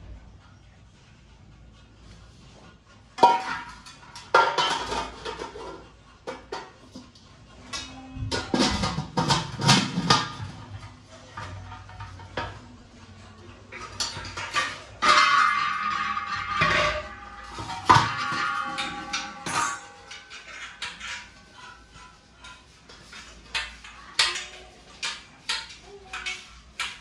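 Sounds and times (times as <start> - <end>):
metal utensils clanking: 3.2 - 27.0.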